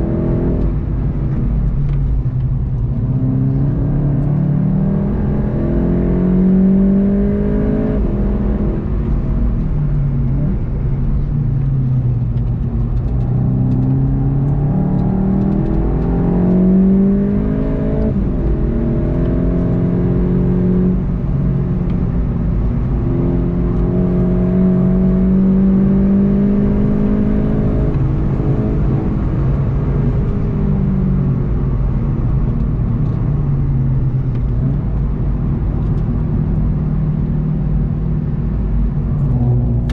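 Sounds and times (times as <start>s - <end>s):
car engine at full throttle: 0.0s - 39.9s
tyre and road rumble: 0.0s - 39.9s.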